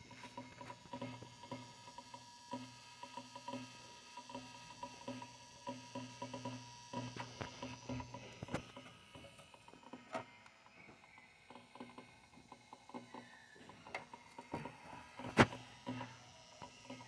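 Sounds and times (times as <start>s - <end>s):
power supply humming: 0.0s - 17.0s.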